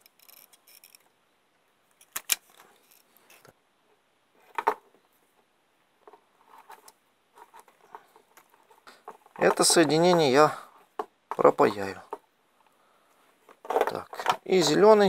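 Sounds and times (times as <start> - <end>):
faint rustling of wire: 0.0 - 15.0.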